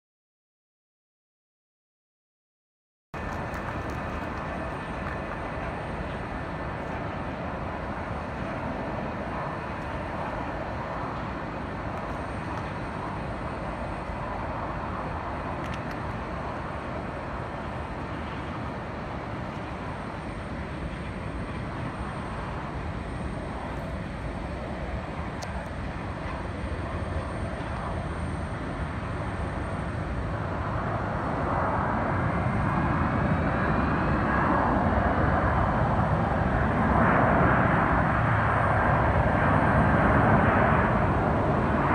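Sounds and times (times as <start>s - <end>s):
jet airliner engine rushing: 3.2s - 41.9s
rising engine whine: 3.2s - 41.9s.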